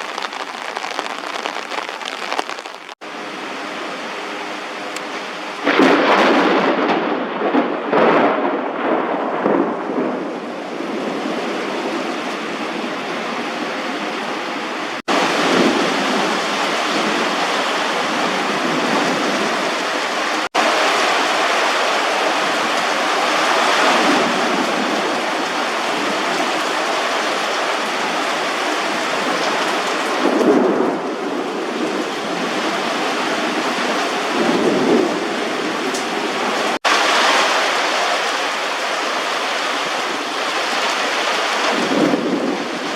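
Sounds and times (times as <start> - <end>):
thunder rumbling: 0.0 - 3.0, 5.6 - 14.1, 15.1 - 27.2, 27.8 - 38.0, 41.6 - 42.9
heavy rain pouring: 0.0 - 42.9.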